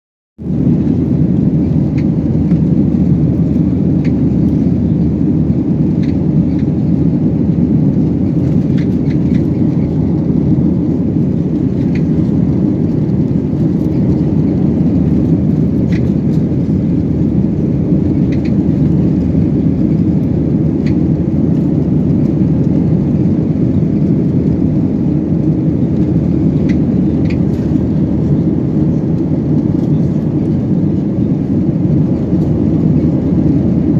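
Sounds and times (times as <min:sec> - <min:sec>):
airliner cabin drone: 0:00.4 - 0:33.9.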